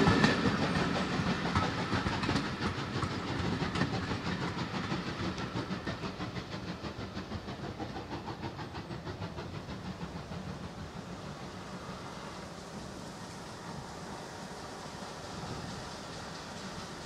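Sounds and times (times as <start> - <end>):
train wheels clicking over rail joints: 0.0 - 17.0.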